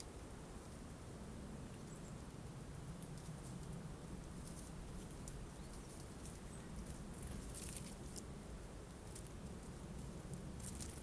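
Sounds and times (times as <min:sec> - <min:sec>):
steady low rumble: 0:00.0 - 0:11.0
birds pecking at seeds: 0:01.6 - 0:11.0.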